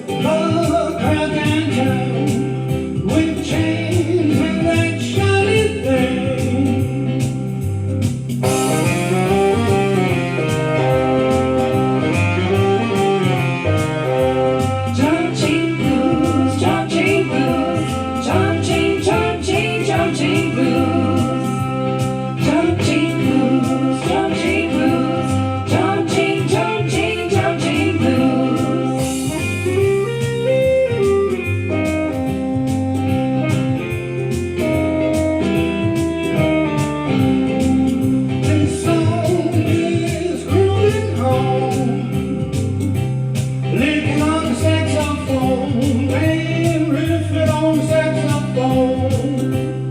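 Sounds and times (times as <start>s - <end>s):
person singing: 0.0s - 7.6s, 8.4s - 32.4s, 35.8s - 42.5s, 43.6s - 49.9s
bass line: 0.0s - 49.9s
blues guitar: 0.0s - 49.9s
steady drum beat: 0.0s - 49.9s.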